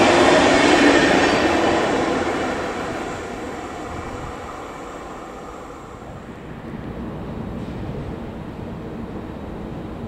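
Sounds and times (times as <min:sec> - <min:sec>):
train wheels rolling on rail: 0:00.0 - 0:10.0.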